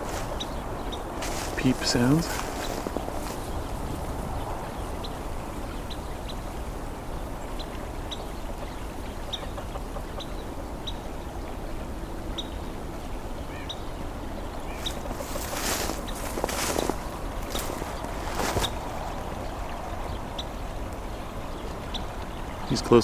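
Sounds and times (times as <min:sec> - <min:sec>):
wren peep calls: 0:00.0 - 0:23.0.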